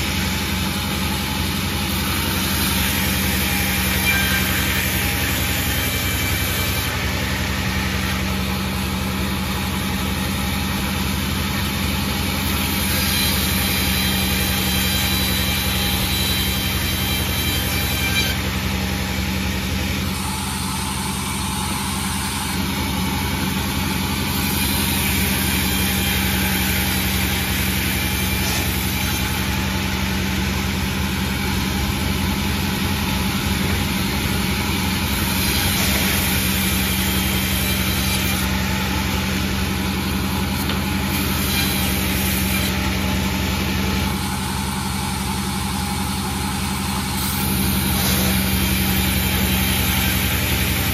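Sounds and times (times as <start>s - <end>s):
sawmill machine running: 0.0s - 50.9s.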